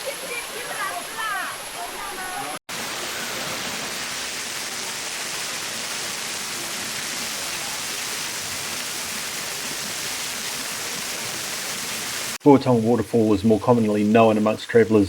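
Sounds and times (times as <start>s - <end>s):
water rushing over rocks: 0.0s - 12.4s.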